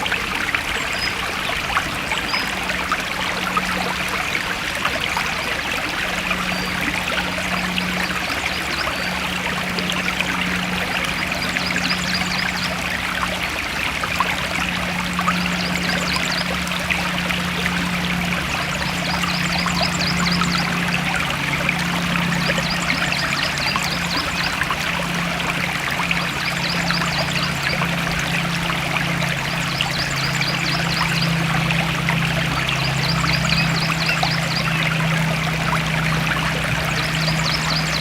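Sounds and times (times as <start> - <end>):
low steady hum: 0.0 - 38.0
stream water flowing: 0.0 - 38.0.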